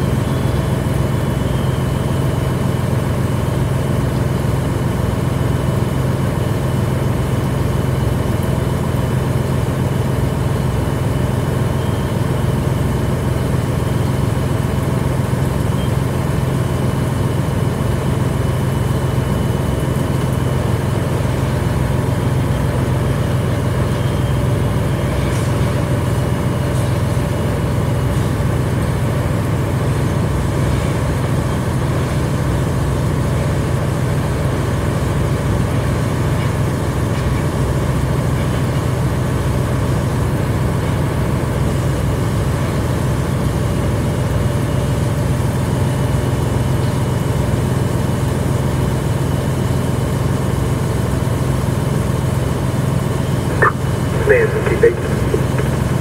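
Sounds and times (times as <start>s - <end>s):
diesel engine low hum: 0.0s - 56.0s.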